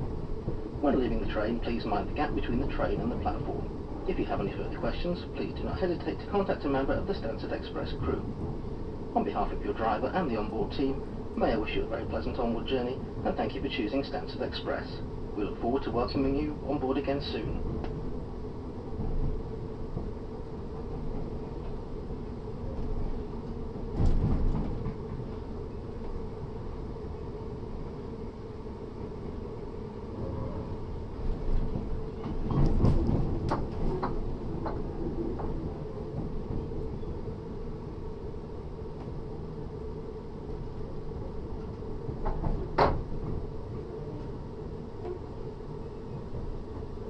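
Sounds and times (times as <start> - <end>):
train rumble and hum: 0.0 - 47.0.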